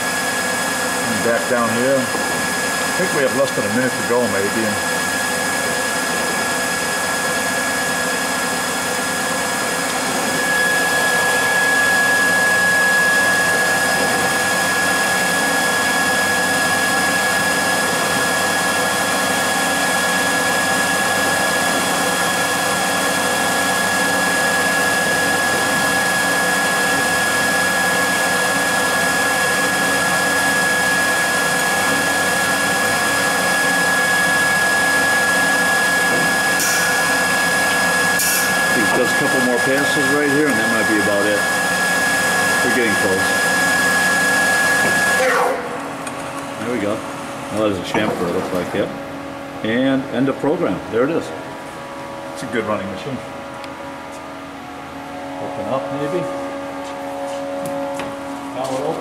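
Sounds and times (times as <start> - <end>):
high-pitched whine: 0.0 - 45.8, 54.9 - 59.0
lathe motor drone: 0.0 - 59.0.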